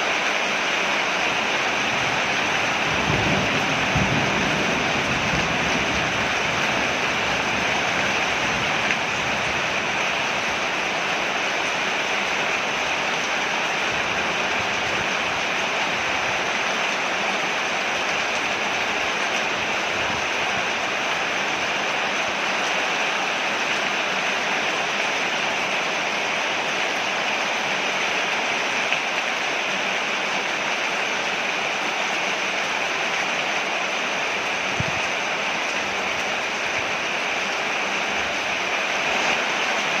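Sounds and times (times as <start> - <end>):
rain falling on a porch: 0.0 - 40.0.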